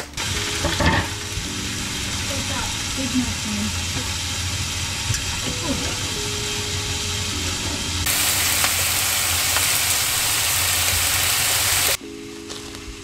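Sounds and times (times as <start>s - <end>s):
food sizzling in pans: 0.0s - 12.0s
background music: 0.0s - 13.0s.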